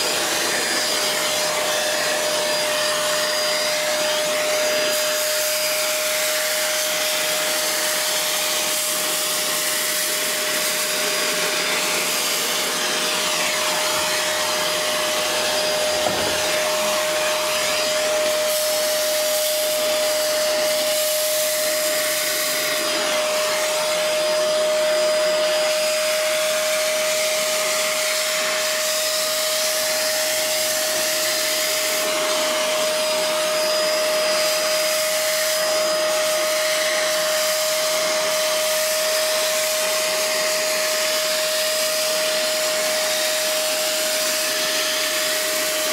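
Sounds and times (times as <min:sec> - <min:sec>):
vacuum cleaner whining: 0:00.0 - 0:45.9.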